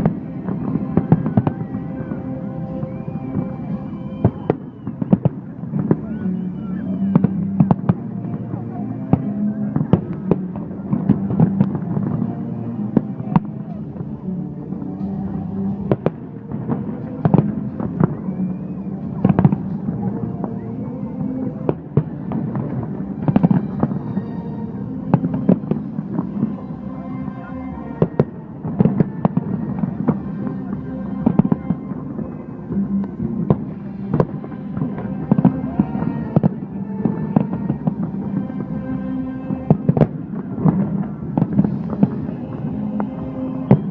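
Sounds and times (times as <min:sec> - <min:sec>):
fireworks bangs and cracks: 0:00.0 - 0:20.6, 0:21.2 - 0:43.9
music: 0:00.0 - 0:43.9.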